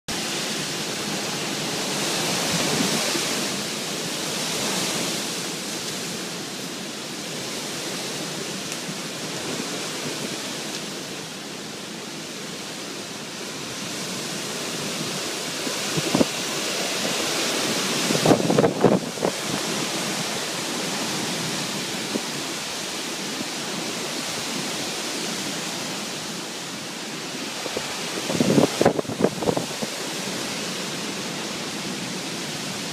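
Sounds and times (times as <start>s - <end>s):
wind and rain rushing: 0.1s - 32.9s.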